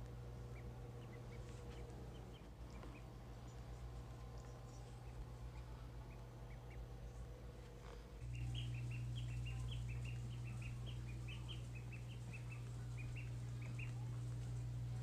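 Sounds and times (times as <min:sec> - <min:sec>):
ducklings peeping: 0:00.0 - 0:15.0
steady low hum: 0:00.0 - 0:15.0.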